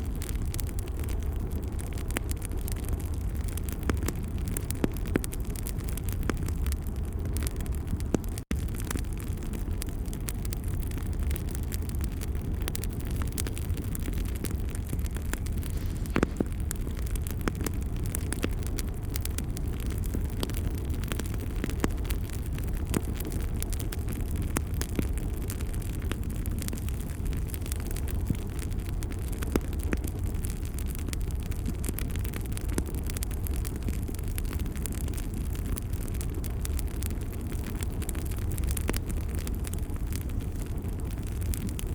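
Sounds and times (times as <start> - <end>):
fire crackling and popping: 0.0 - 41.9
fire rumbling: 0.0 - 41.9.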